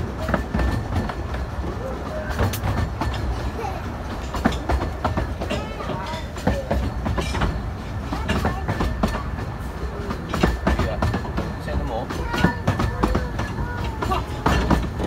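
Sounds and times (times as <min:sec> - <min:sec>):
train carriage rumbling: 0:00.0 - 0:15.0
wheels clicking on rail joints: 0:00.0 - 0:15.0.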